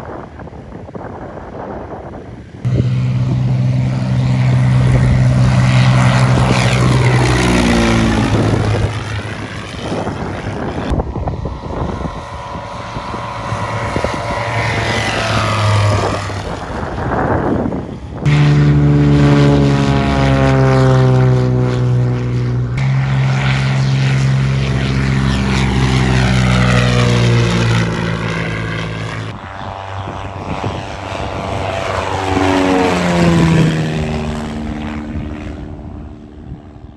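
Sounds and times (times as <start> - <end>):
propeller airplanes passing: 0.0 - 36.9.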